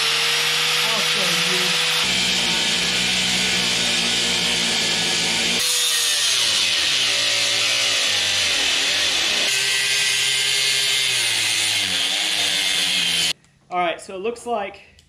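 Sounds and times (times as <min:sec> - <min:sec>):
power grinder cutting metal: 0:00.0 - 0:13.4.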